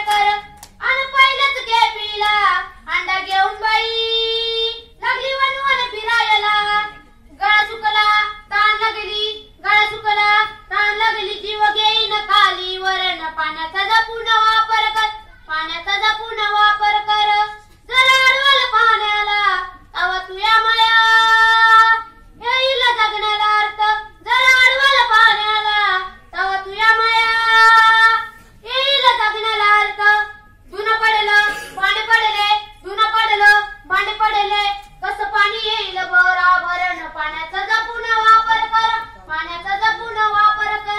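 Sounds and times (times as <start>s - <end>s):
boy singing unaccompanied: 0.0s - 40.9s.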